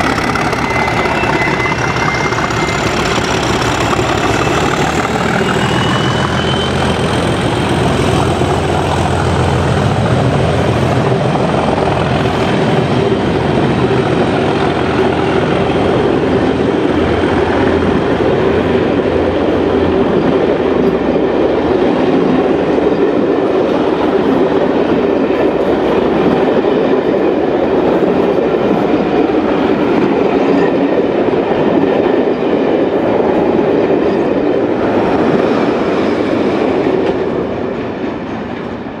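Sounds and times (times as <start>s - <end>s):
train wheels clicking over track joints: 0.0s - 39.0s.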